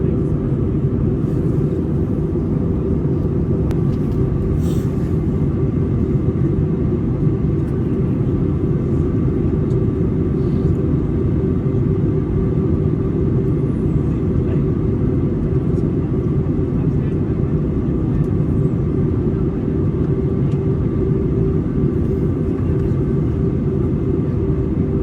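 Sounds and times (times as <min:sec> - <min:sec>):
engine and airflow rumble: 0:00.0 - 0:25.0.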